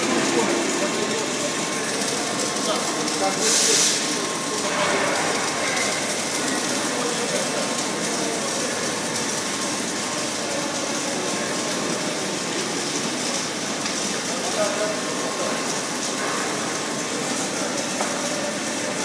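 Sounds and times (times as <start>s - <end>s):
steady welding machinery noise: 0.0s - 19.0s.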